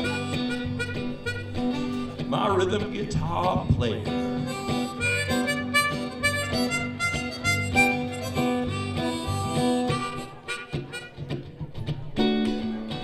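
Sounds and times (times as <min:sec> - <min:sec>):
blues harmonica wailing: 0:00.0 - 0:03.2, 0:03.9 - 0:12.4
band bass and guitar backing: 0:00.0 - 0:13.0.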